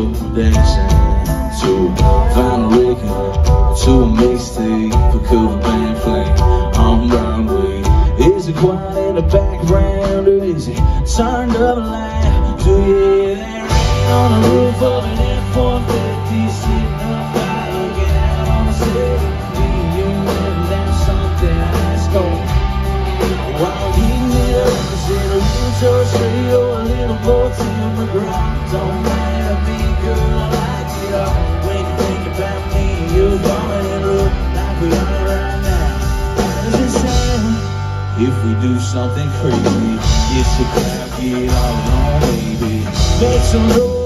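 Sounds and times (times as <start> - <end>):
country-rock band playing: 0.0 - 44.0
person singing: 0.0 - 44.0.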